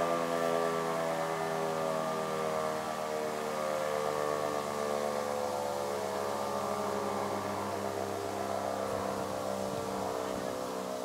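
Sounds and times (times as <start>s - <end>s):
rotary siren winding down: 0.0s - 11.0s.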